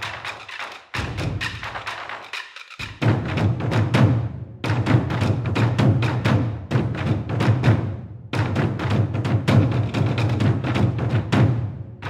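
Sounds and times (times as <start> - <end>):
low drum: 0.0 - 11.7
fast percussion beat: 0.0 - 11.9.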